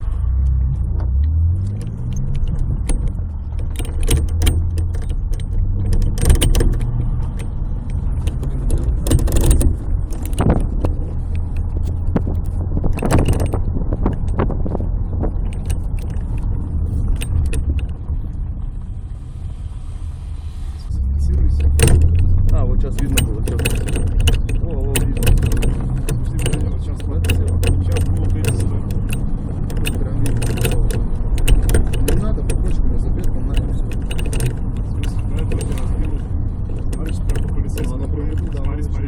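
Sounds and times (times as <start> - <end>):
clunks and rattles: 0.0 - 19.1, 20.9 - 39.0
car engine humming: 0.0 - 39.0.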